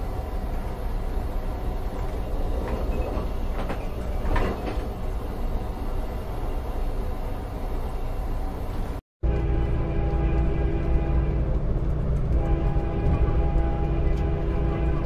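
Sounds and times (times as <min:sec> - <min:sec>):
train clanks: 0:00.0 - 0:15.0
train rumbling on rails: 0:00.0 - 0:15.0.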